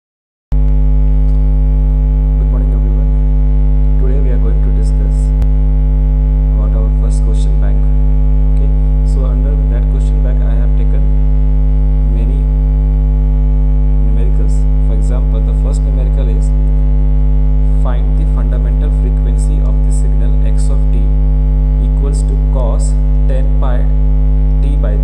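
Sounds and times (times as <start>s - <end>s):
electrical mains hum: 0.6s - 25.0s.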